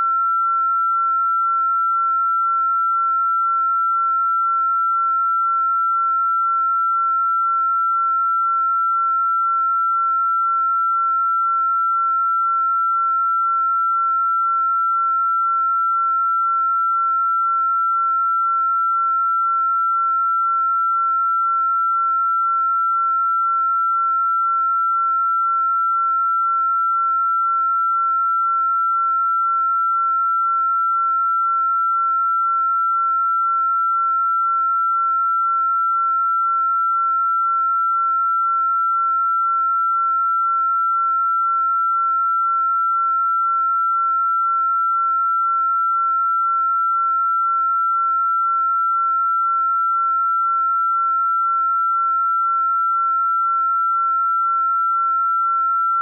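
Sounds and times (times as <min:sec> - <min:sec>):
steady high sine tone: 0:00.0 - 0:56.0.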